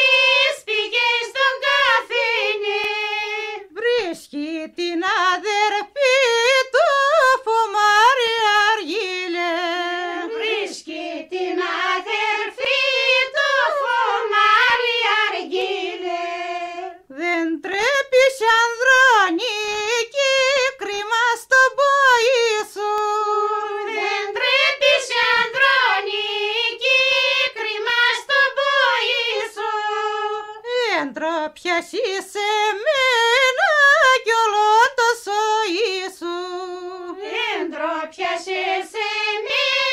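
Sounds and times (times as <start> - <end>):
high voice singing folk song: 0.0 - 39.9.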